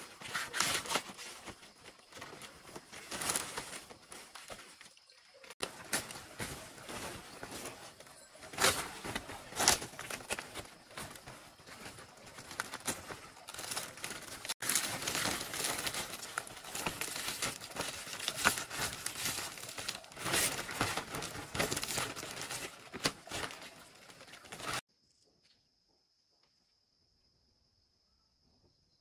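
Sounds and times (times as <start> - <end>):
dense crackling and rustling: 0.0 - 24.8.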